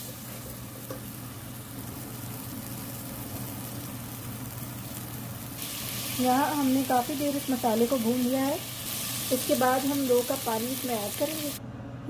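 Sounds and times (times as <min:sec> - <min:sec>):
oil sizzling in pot: 0:00.0 - 0:11.6.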